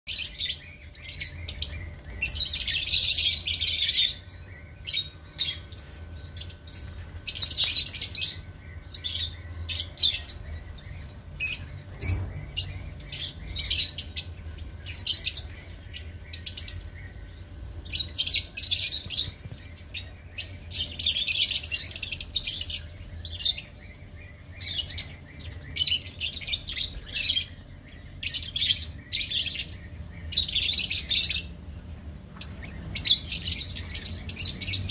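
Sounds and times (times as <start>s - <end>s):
lovebirds chirping: 0.1s - 34.9s.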